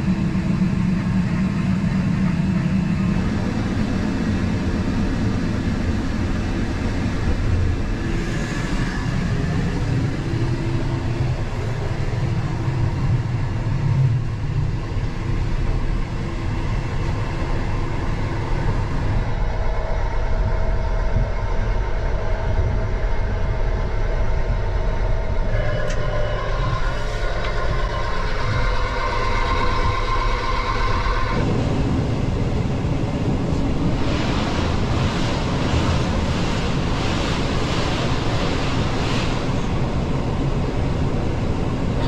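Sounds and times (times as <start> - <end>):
train running rumble: 0.0 - 42.0
whine of steady tones: 0.0 - 42.0.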